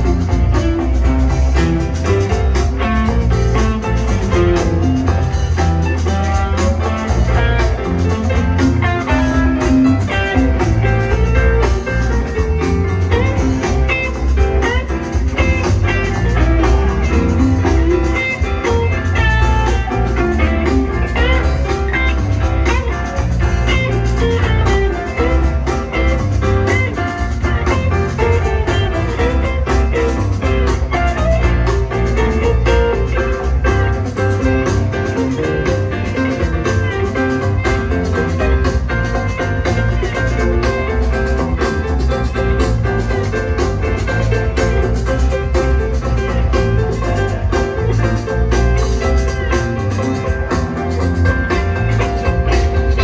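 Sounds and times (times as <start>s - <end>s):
electric lead guitar runs: 0.0s - 53.0s
live rock band playing: 0.0s - 53.0s.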